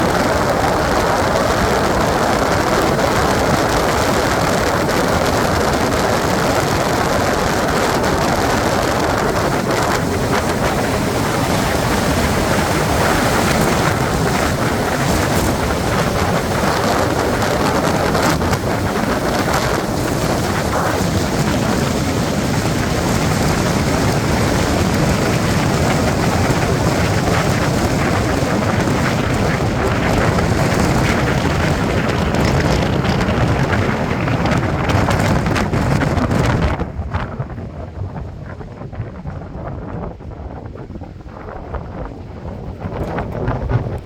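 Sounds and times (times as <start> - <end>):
wind and road noise from car: 0.0 - 44.0
wind buffeting microphone: 0.0 - 44.0.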